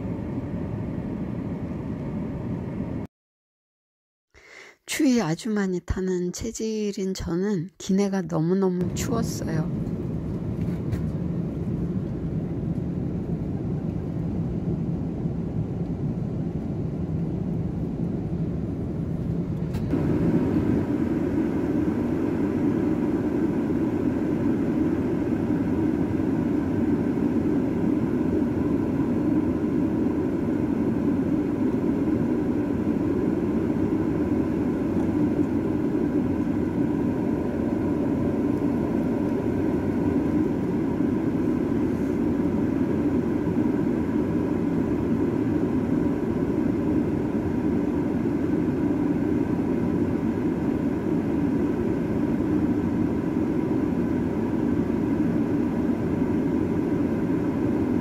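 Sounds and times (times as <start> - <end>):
jet engine roar in cabin: 0.0 - 3.1, 8.8 - 58.0
faint steady hum: 4.4 - 58.0.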